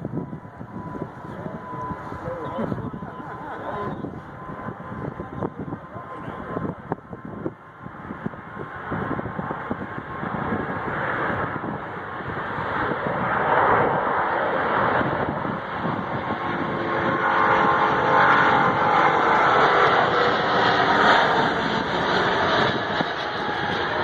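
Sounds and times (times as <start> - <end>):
jet engines at takeoff power: 0.0 - 24.0.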